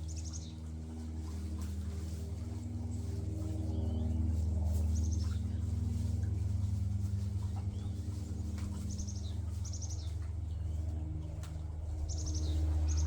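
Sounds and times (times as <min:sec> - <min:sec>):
low mechanical hum: 0:00.0 - 0:13.0
small birds chirping: 0:00.0 - 0:13.0.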